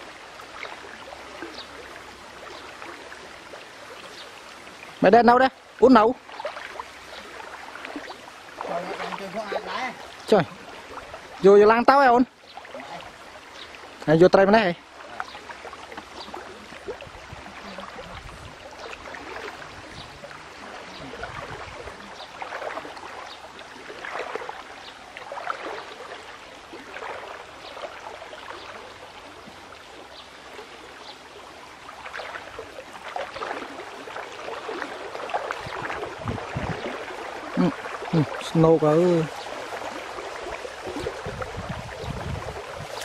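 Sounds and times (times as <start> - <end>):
stream water splashing: 0.0 - 43.0.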